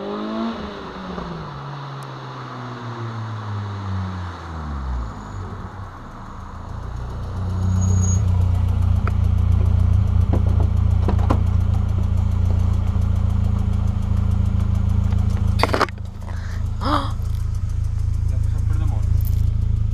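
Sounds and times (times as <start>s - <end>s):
car engine running at low revs: 0.0s - 19.9s.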